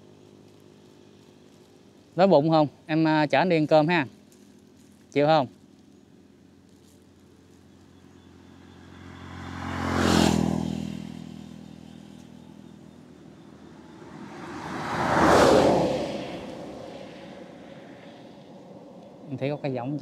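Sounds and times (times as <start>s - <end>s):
road vehicles passing: 0.0s - 20.0s.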